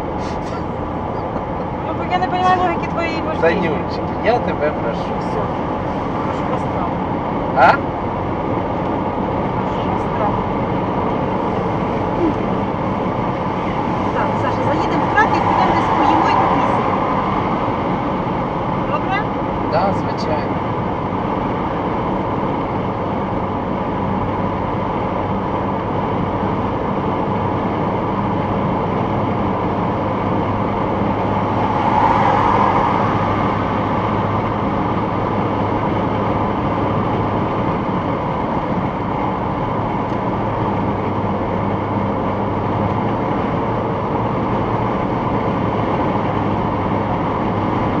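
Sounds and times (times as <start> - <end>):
car road and engine drone: 0.0 - 48.0.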